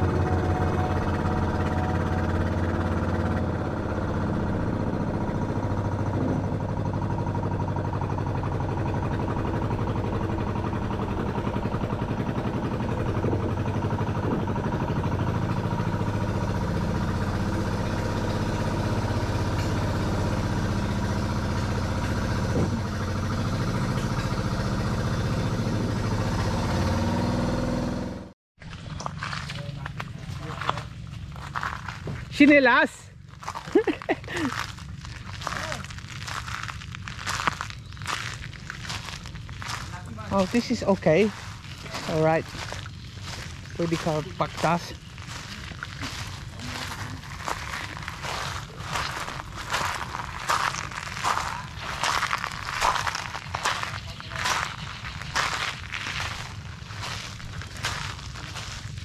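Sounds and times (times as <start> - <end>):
boat engine droning: 0.0 - 28.3, 33.8 - 59.0.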